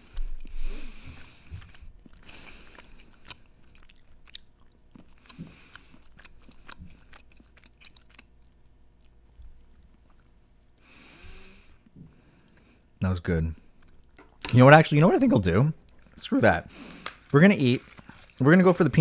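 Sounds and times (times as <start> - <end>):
person chewing chocolate: 0.0 - 13.0, 13.7 - 14.2, 15.8 - 18.4.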